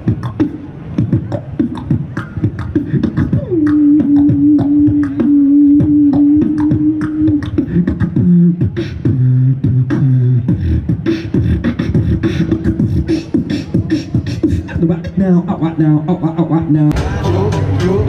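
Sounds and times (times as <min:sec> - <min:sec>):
person beatboxing: 0:00.0 - 0:18.0.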